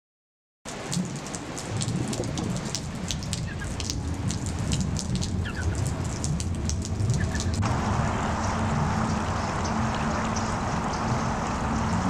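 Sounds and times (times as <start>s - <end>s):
heavy rain on hard surface: 0.7s - 12.0s
low rumble: 1.8s - 12.0s.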